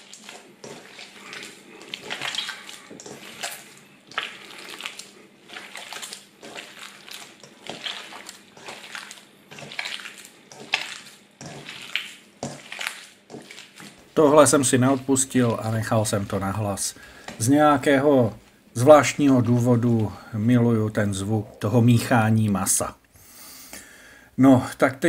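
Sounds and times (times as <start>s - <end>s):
hands squishing wet minced meat: 0.0s - 22.7s.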